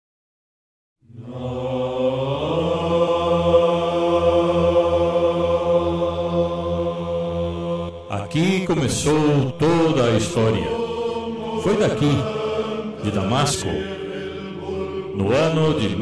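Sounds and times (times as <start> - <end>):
low steady drone: 1.0 - 16.0
voices chanting long notes: 1.0 - 16.0.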